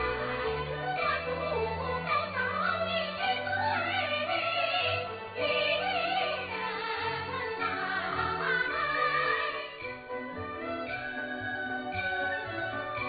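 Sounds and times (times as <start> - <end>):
traditional instrumental accompaniment: 0.0 - 13.0.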